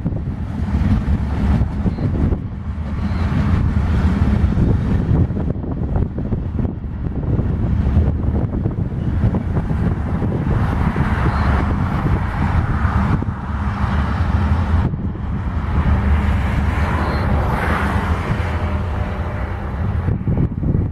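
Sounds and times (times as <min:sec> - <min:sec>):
freight train rumbling: 0:00.0 - 0:20.9
wind on microphone: 0:00.0 - 0:20.9.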